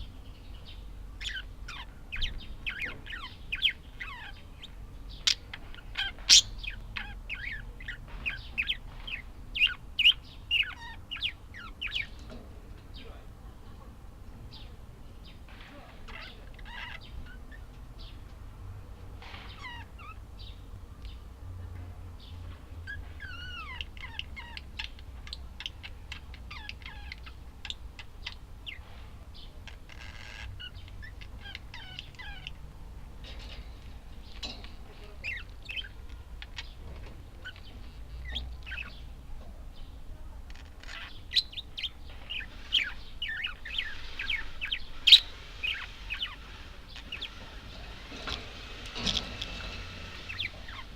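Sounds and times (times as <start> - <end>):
budgerigars chirping: 0.0 - 12.4, 14.5 - 18.2, 19.2 - 20.6, 22.2 - 32.6, 33.2 - 39.2, 39.8 - 50.9.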